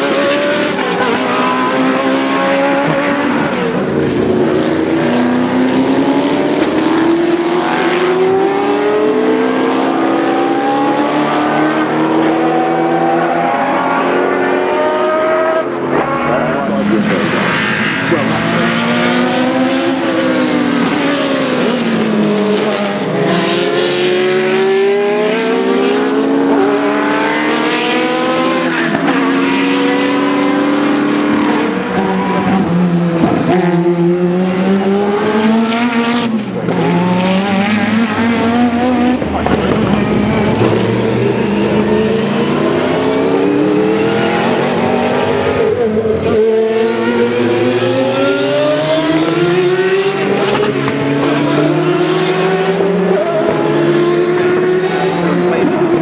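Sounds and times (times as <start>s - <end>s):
race car engines at full throttle: 0.0s - 56.0s.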